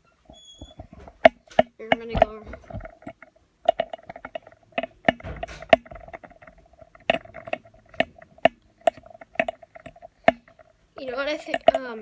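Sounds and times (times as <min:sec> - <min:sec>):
sharp clicks and knocks: 0:00.2 - 0:12.0.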